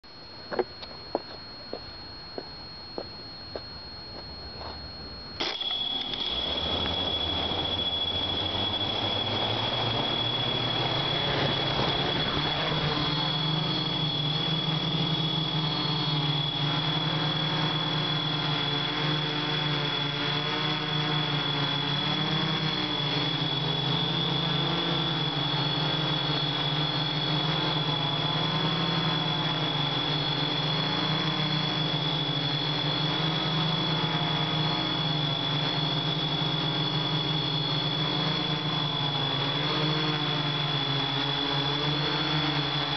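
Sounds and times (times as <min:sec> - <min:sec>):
high whine: 0:00.0 - 0:42.9
drone motors buzzing: 0:00.1 - 0:42.9.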